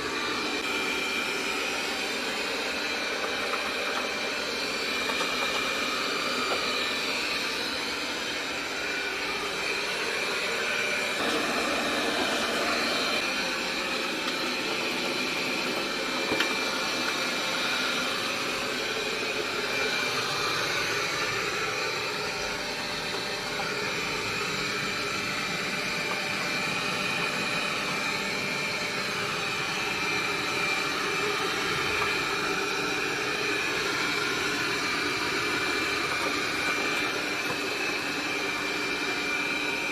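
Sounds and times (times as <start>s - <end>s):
robot vacuum cleaner whirring: 0.0s - 39.9s.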